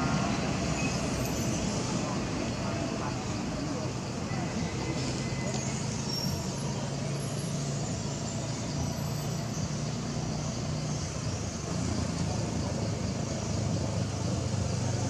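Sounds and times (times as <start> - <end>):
faint engine hum: 0.0 - 15.0
traffic rumble: 0.0 - 15.0.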